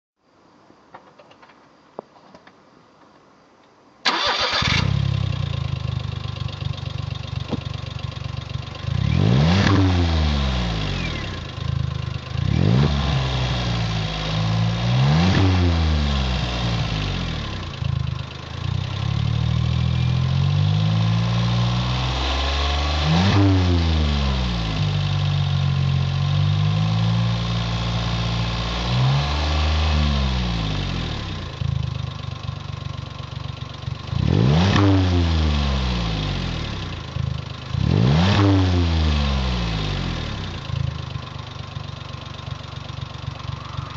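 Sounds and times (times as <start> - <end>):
car engine idling and revving: 4.1 - 43.9.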